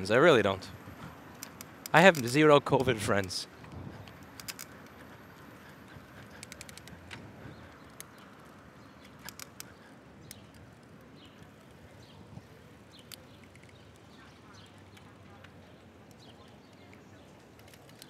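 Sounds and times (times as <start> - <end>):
faint background noise: 0.0 - 18.0
light clicks and ticks: 1.0 - 12.1, 12.9 - 18.0.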